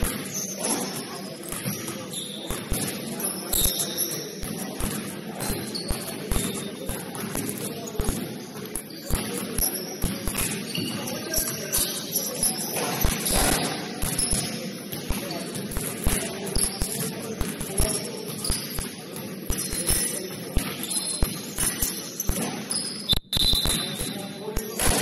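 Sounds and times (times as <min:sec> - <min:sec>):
basketball bouncing: 0:00.0 - 0:12.0, 0:12.7 - 0:25.0
sneaker squeaks: 0:00.0 - 0:25.0
sports hall background: 0:00.0 - 0:25.0.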